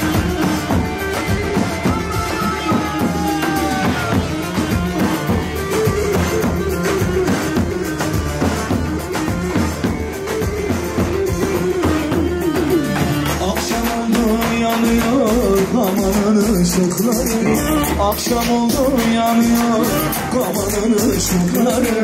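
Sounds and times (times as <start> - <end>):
bass drum beating: 0.0 - 22.0
folk melody line: 0.0 - 22.0.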